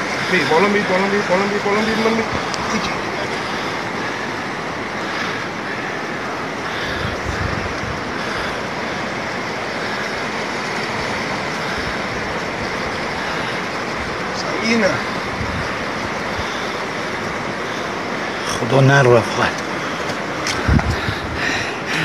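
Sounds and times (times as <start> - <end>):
fast river water rushing: 0.0 - 22.0.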